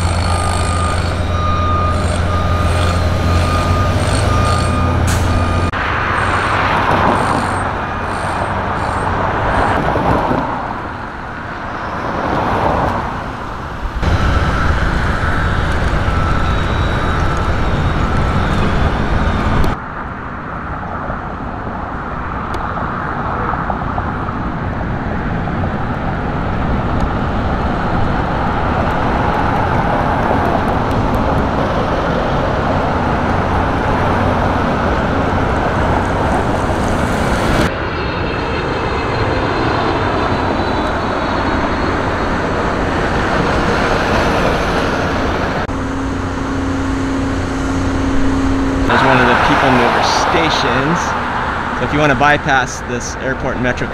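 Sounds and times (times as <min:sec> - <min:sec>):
cars passing: 0:00.0 - 0:53.9
trucks passing: 0:00.0 - 0:53.9.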